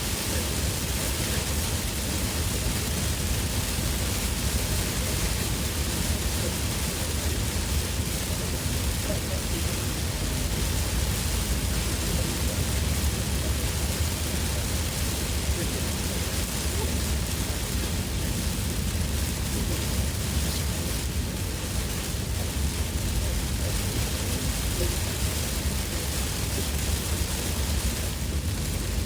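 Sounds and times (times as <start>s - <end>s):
heavy rain on a car: 0.0s - 29.0s
low road rumble: 0.0s - 29.0s.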